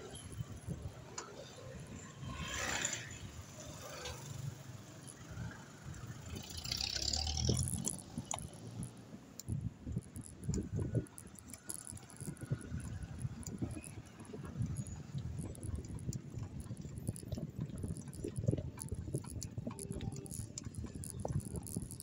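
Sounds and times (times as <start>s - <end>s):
bike rattling over rough ground: 0.0s - 22.0s.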